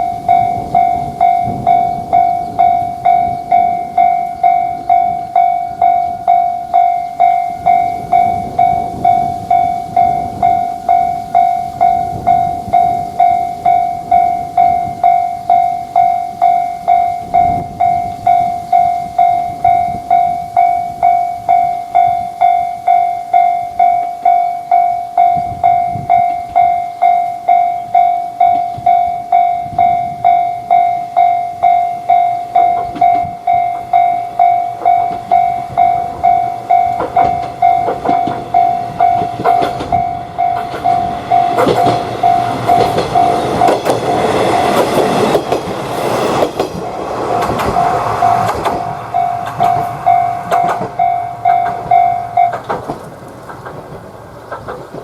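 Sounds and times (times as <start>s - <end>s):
level crossing bell ringing: 0.0s - 46.9s, 47.5s - 52.8s
train wheels clacking: 0.0s - 55.0s.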